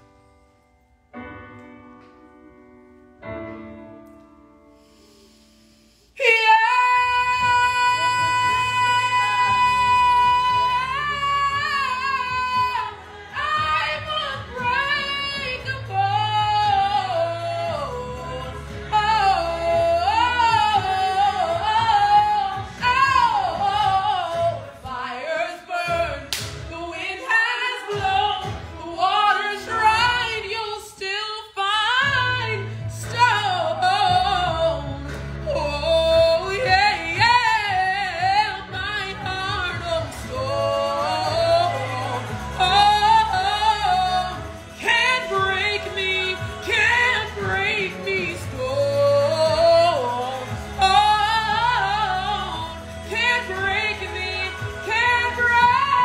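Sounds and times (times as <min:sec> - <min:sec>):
woman singing a ballad: 0:06.2 - 0:56.0.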